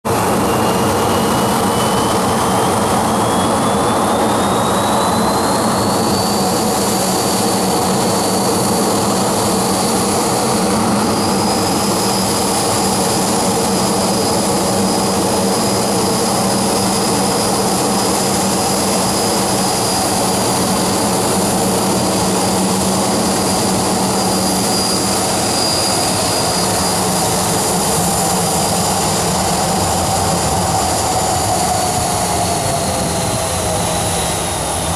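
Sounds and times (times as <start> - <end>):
jet engines running with high whine: 0.0 - 34.9.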